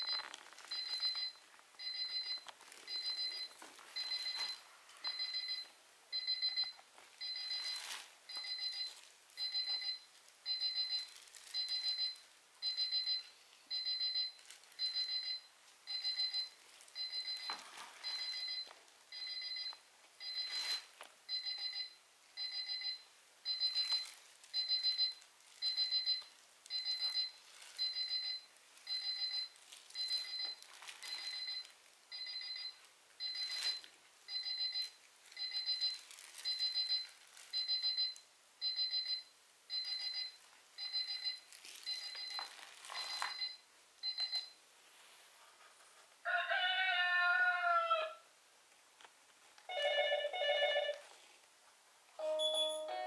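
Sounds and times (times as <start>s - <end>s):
digital alarm clock beeping: 0.0s - 17.5s, 18.1s - 24.0s, 24.6s - 37.0s, 37.6s - 42.4s, 43.0s - 44.5s, 52.2s - 53.0s.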